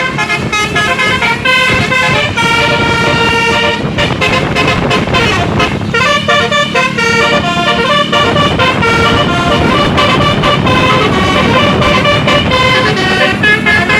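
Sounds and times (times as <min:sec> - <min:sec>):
bus engine rumble: 0:00.0 - 0:13.9
musical air horn melody: 0:00.0 - 0:13.9.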